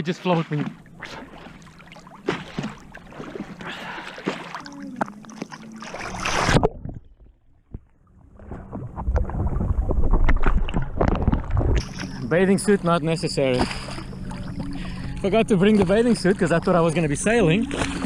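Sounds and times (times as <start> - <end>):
low rumble of water: 0.0 - 18.0
water splashing and sloshing: 0.0 - 18.0.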